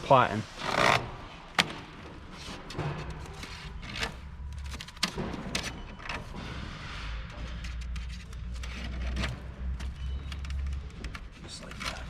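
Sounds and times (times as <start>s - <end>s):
wire scraping: 0.6s - 12.0s.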